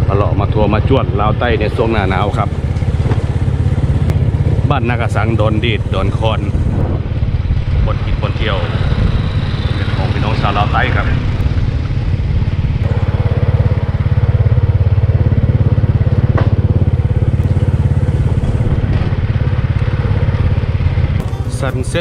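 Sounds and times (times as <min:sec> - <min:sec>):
small motorcycle engine running: 0:00.0 - 0:22.0.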